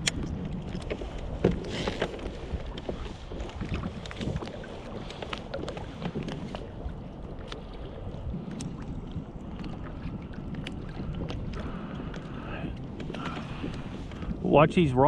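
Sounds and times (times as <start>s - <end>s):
small splashes and ticks: 0.0s - 14.4s
water lapping against kayak hull: 0.0s - 15.0s
wind rumbling on microphone: 0.0s - 15.0s.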